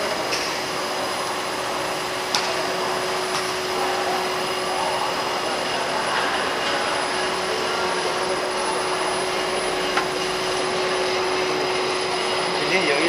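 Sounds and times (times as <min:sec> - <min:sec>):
machine whirring: 0:00.0 - 0:13.0.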